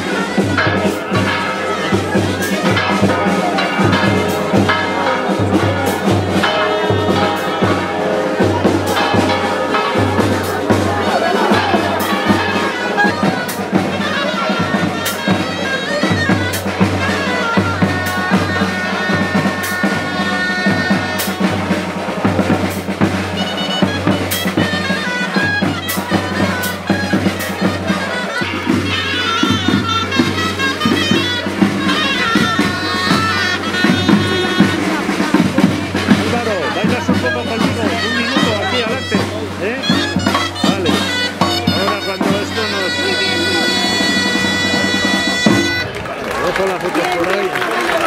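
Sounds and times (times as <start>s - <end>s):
reed shawms playing dance tune: 0.0s - 48.0s
snare drum beating: 0.0s - 48.0s.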